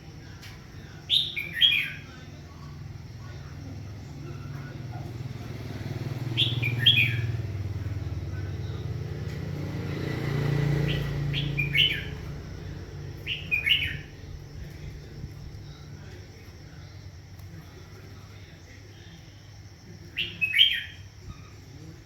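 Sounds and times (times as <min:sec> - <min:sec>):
low engine hum: 0:00.0 - 0:22.0
small birds chirping: 0:00.0 - 0:22.0.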